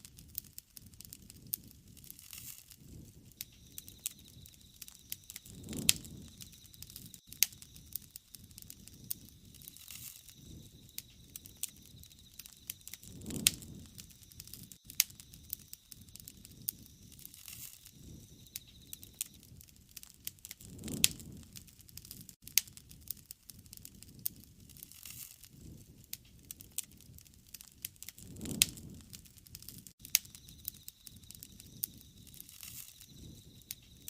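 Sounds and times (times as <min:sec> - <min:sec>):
flames rushing: 0:00.0 - 0:34.0
wood fire crackling: 0:00.0 - 0:34.0.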